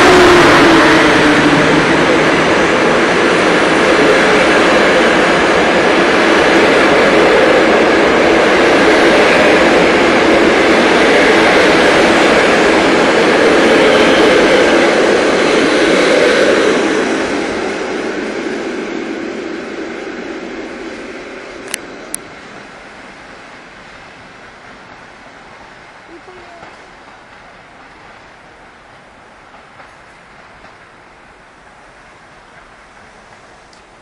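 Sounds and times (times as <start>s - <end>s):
train wheels rolling on rails: 0.0s - 34.0s.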